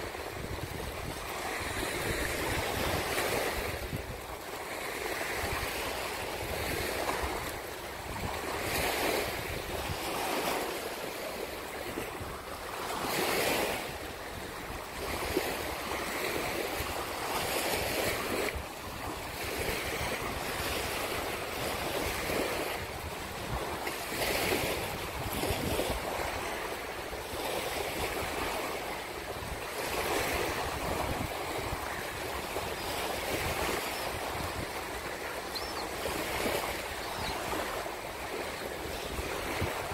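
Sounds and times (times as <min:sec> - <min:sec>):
wind buffeting microphone: 0:00.0 - 0:10.9, 0:11.8 - 0:39.9
small waves washing on sand: 0:00.0 - 0:39.9.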